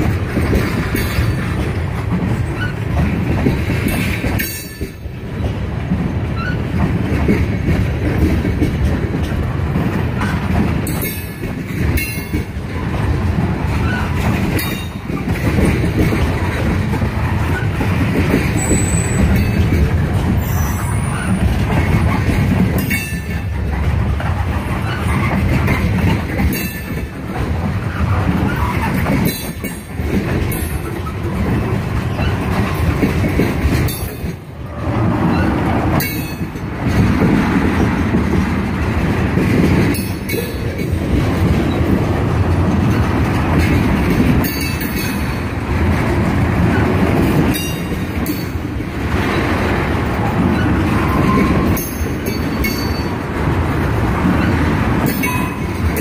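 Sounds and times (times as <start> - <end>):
clacks over rail joints: 0.0 - 56.0
steel wheels rumbling on rail: 0.0 - 56.0.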